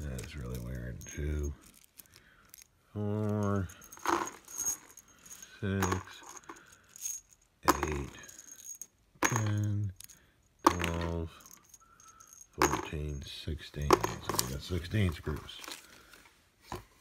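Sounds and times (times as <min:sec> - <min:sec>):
steel screws clinking in hand: 0:00.0 - 0:15.8.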